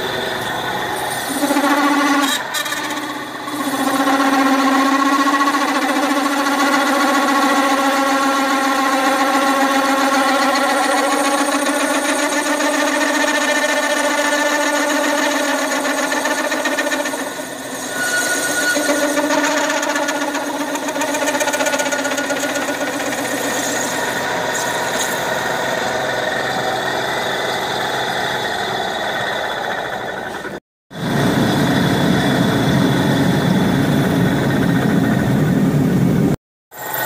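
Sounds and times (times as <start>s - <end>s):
milling machine whine: 0.0s - 37.0s.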